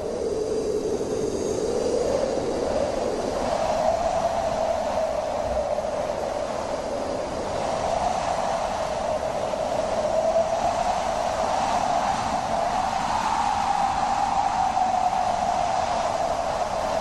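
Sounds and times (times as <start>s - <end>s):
wind moaning: 0.0s - 17.0s.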